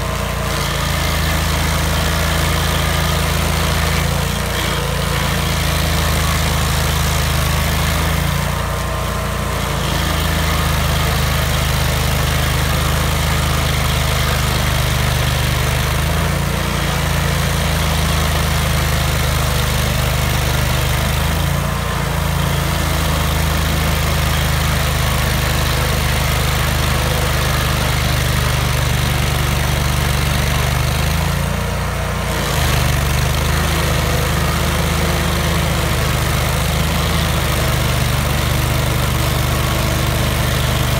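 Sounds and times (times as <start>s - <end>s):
stump grinder engine running: 0.0s - 40.9s.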